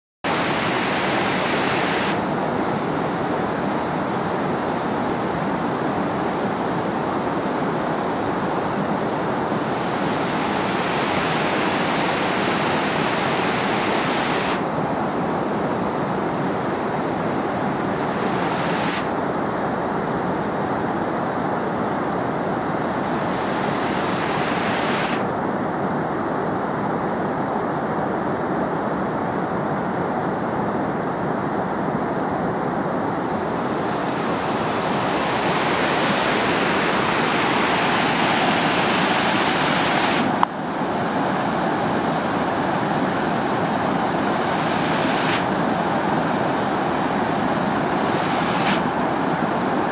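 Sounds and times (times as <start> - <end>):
white water rushing over rocks: 0.3 - 25.4, 32.6 - 49.9.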